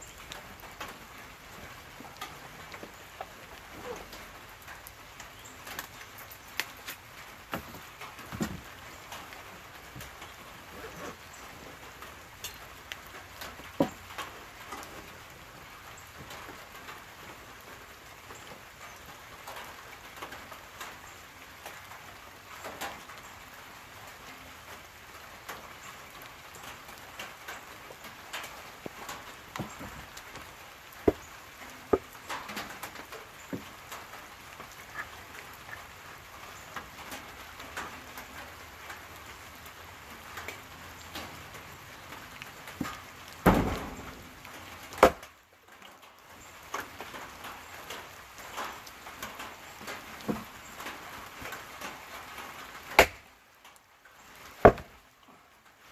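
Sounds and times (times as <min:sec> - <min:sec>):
light rain falling: 0:00.0 - 0:55.9.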